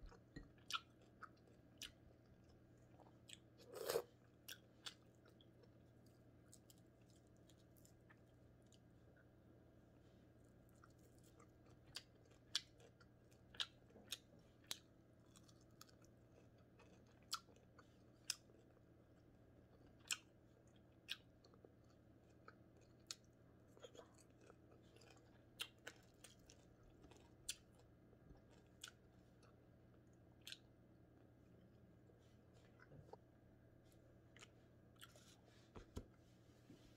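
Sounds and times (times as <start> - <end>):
chewing crispy fried fish: 0.0 - 9.3, 10.2 - 33.2
faint steady hum: 0.0 - 36.9.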